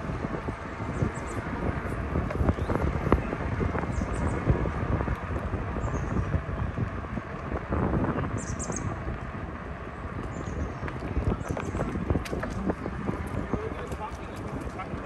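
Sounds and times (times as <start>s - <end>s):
bicycle tyres rumbling on road: 0.0s - 15.0s
wind rushing over microphone: 0.0s - 15.0s
birds chirping: 0.4s - 4.7s, 5.6s - 7.3s, 8.0s - 15.0s.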